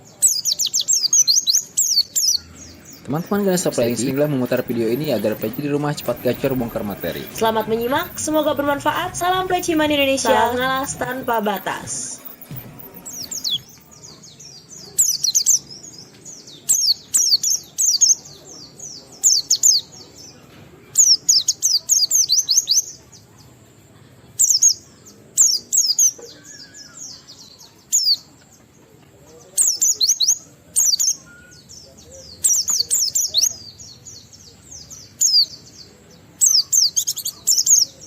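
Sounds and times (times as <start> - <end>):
bird chirping song: 0.0 - 23.5, 24.3 - 38.0.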